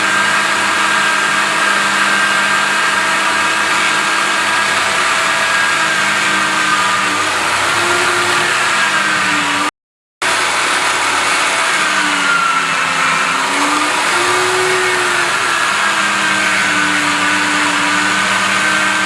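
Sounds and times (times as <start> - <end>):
electric grinder polishing metal: 0.0 - 19.0.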